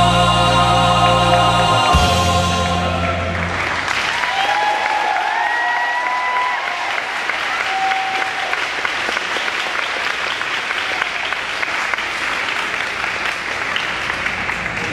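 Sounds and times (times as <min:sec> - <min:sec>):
audience applauding: 0:02.7 - 0:14.9.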